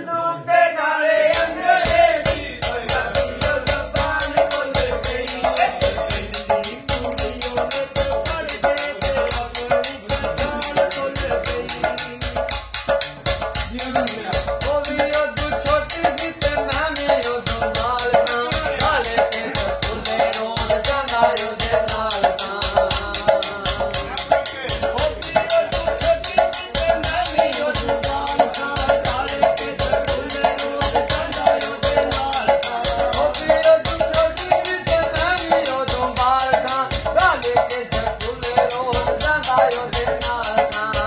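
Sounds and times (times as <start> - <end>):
metal pot drumming: 1.4 - 41.0.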